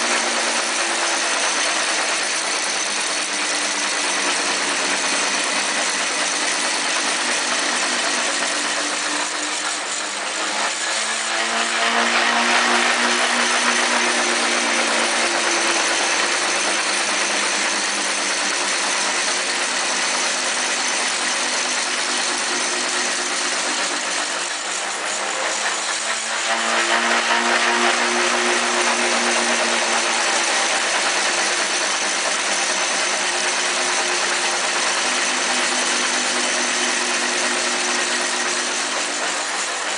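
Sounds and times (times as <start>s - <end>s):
spinning rotor whirring rattle: 0.0s - 39.9s.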